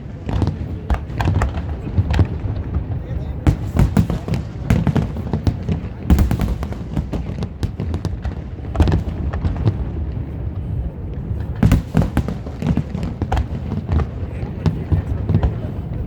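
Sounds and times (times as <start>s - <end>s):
fireworks booms and pops: 0.0s - 16.0s.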